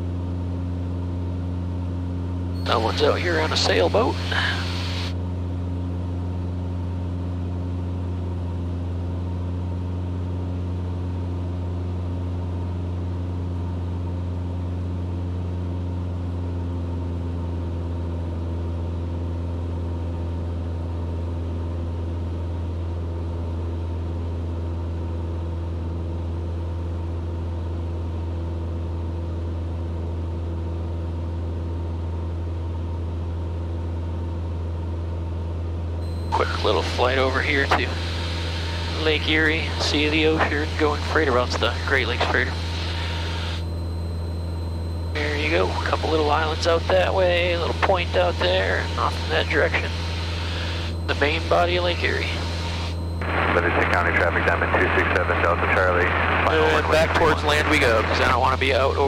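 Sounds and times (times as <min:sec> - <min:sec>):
aircraft engine droning in cabin: 0:00.0 - 0:59.0.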